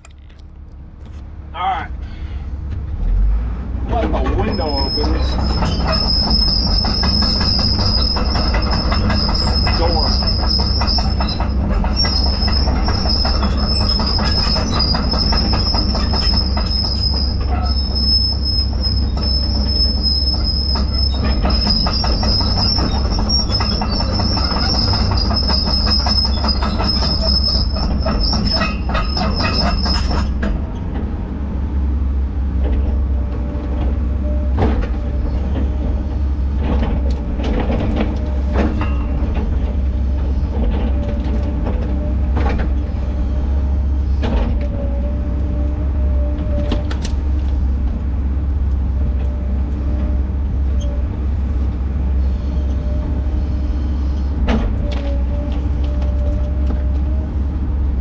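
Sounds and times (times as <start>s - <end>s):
engine rumble: 0.0s - 58.0s
high-pitched whine with rattling: 4.2s - 58.0s.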